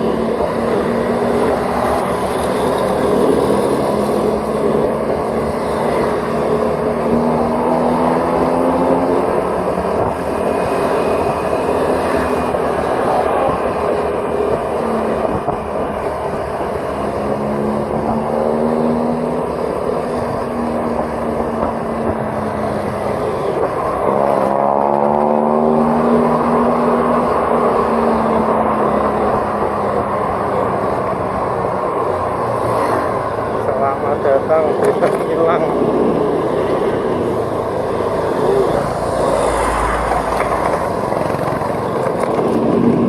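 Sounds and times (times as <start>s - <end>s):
road and wind noise: 0.0s - 43.0s.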